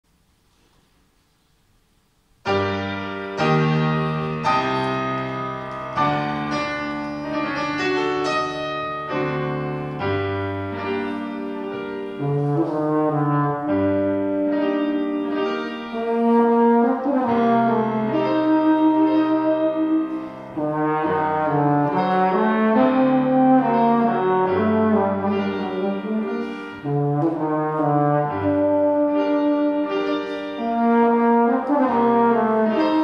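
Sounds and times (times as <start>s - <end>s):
piano playing: 2.4s - 33.0s
euphonium playing: 2.5s - 33.0s.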